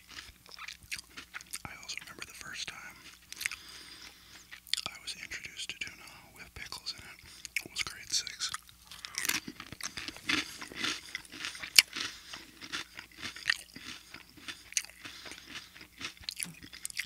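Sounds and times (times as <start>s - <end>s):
person chewing crunchy cracker: 0.0s - 17.0s.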